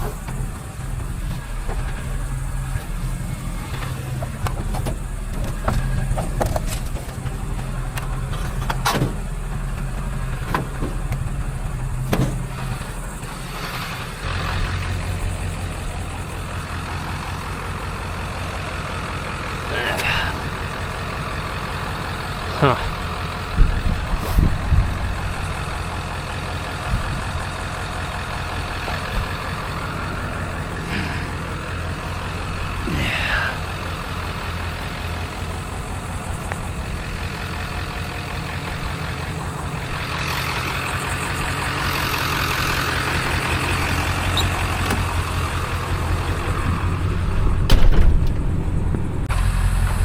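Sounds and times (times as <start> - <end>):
vehicle engine with road noise: 0.0 - 50.0.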